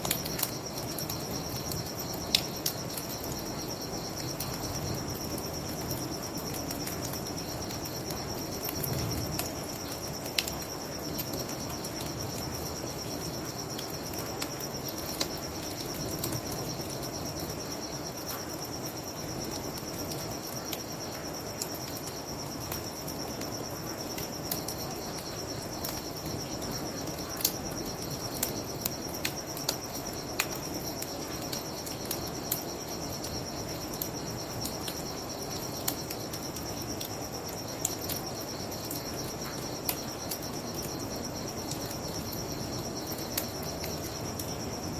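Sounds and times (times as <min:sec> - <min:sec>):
crickets trilling: 0:00.0 - 0:44.9
wood fire crackling: 0:00.0 - 0:44.9.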